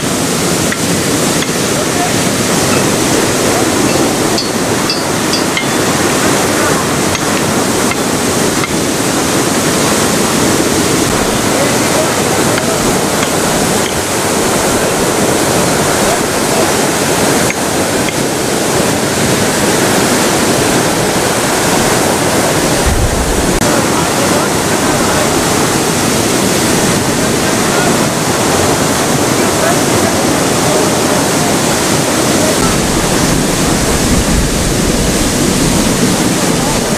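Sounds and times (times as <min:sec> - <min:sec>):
water gushing from fire hydrant: 0:00.0 - 0:36.9.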